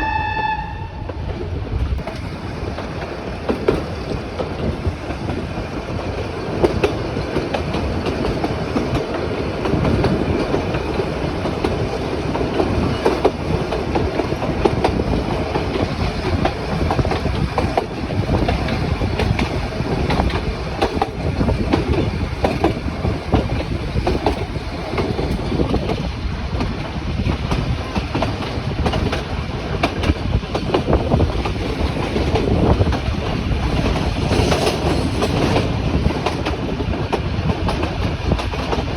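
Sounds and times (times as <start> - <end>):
train carriages rumbling: 0.0 - 38.9
wheels knocking on rails: 2.0 - 38.9.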